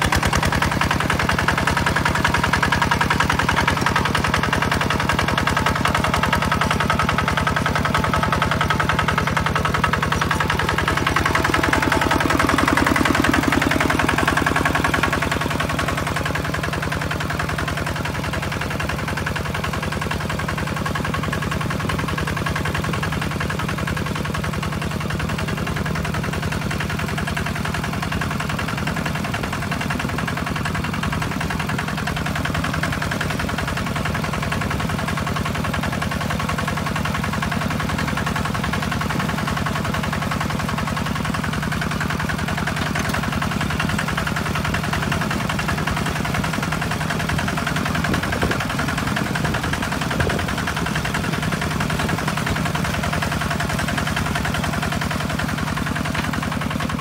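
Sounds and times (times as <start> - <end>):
walking tractor diesel engine: 0.0 - 57.0.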